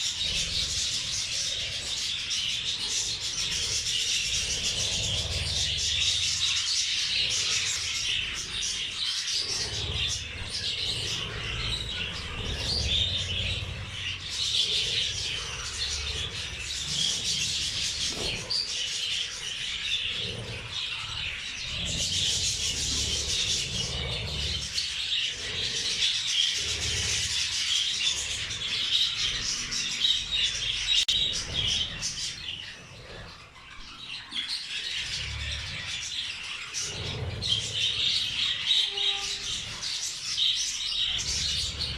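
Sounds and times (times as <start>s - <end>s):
budgerigars chattering and chirping: 0.0s - 41.9s.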